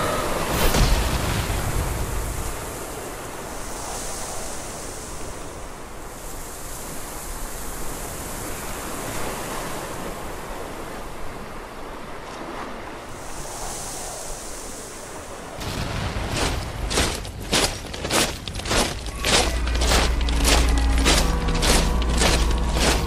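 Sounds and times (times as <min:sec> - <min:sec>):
ocean waves breaking on rocks: 0:00.0 - 0:13.5, 0:14.2 - 0:23.0.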